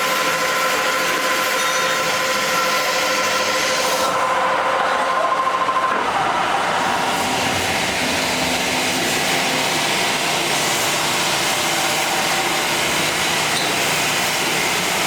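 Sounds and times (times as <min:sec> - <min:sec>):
saw cutting metal pipe: 0:00.0 - 0:15.0.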